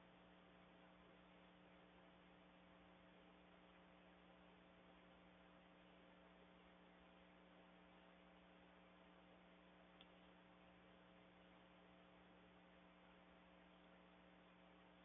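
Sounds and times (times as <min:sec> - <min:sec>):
faint electrical hum with hiss: 0:00.0 - 0:15.0.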